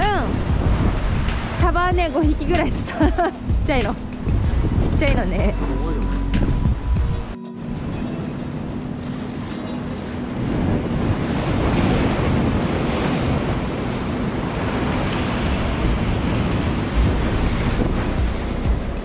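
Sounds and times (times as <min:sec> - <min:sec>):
sea waves washing against breakwater: 0:00.0 - 0:19.0
wind rumbling on microphone: 0:00.0 - 0:19.0.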